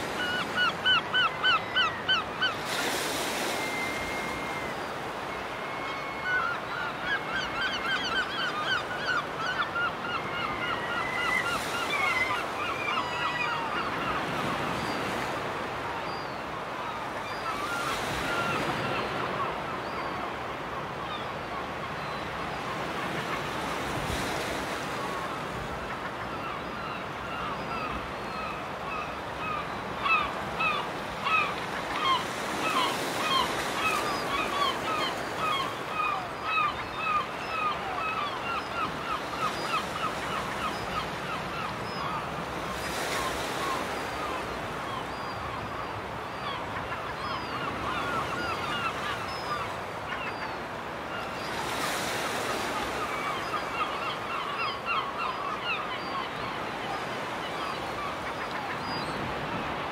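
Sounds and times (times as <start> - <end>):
gulls calling: 0.0 - 59.9
small waves on shore: 0.0 - 59.9.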